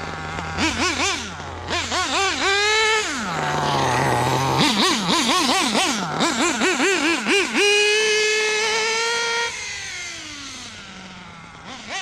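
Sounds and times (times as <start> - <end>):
rc car nitro engine revving: 0.0 - 12.0.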